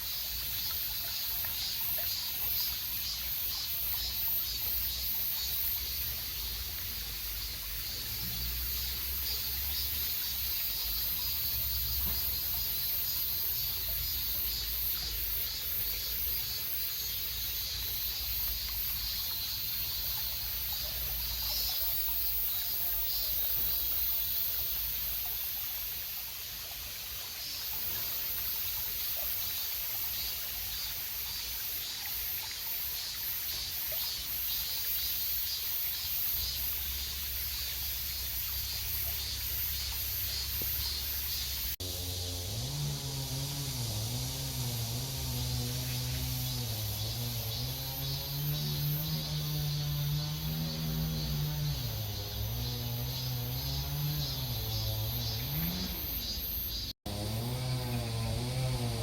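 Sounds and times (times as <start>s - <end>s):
insects chirring: 0.0s - 59.0s
water trickling: 0.0s - 59.0s.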